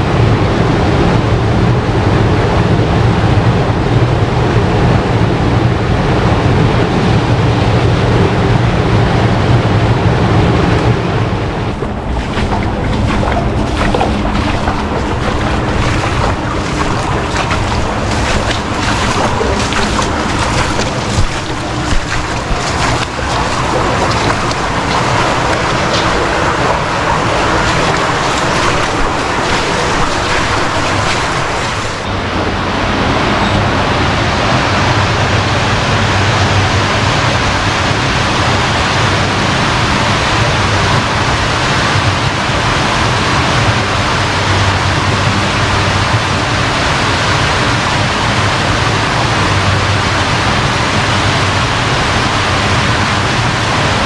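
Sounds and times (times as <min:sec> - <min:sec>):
stream water rushing: 0:06.3 - 0:54.0.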